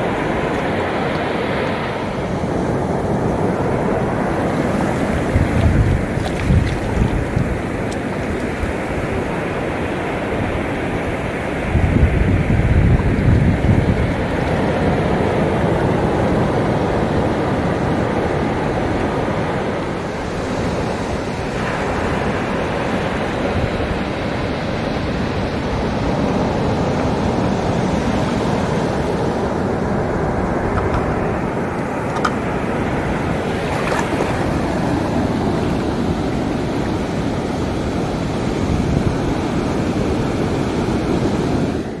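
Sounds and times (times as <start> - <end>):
surf washing over sand: 0.0 - 42.0
wind buffeting microphone: 0.0 - 42.0.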